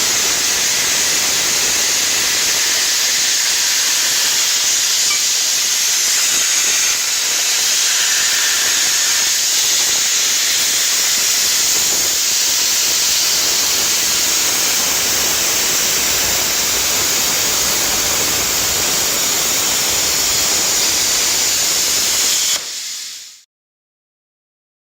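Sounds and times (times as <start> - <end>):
steady loud hiss: 0.0 - 23.4.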